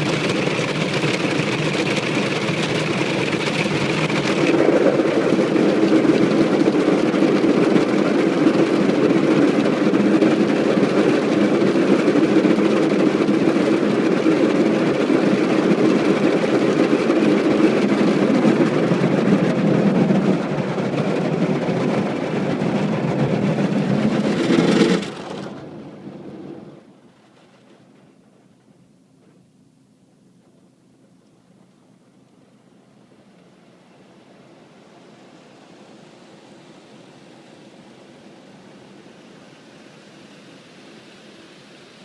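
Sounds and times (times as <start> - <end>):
car wash machinery rushing: 0.0 - 28.6, 32.6 - 42.0.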